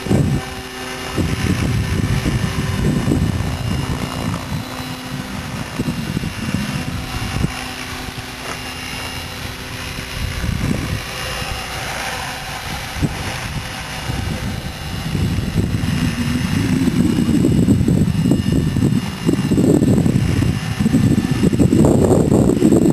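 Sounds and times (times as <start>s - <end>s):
rc helicopter motor whine: 0.0s - 22.9s
uneven low rumble: 0.0s - 22.9s.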